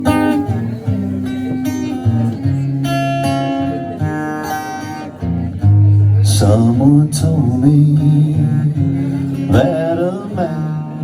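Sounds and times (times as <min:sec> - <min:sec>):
guitar playing: 0:00.0 - 0:11.0.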